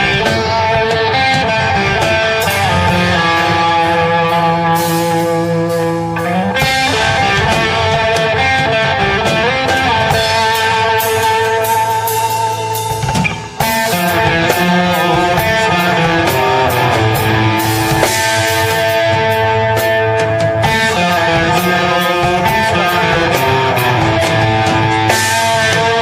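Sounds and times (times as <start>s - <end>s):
bending electric guitar lines: 0.0s - 26.0s
rock band playing live: 0.0s - 26.0s.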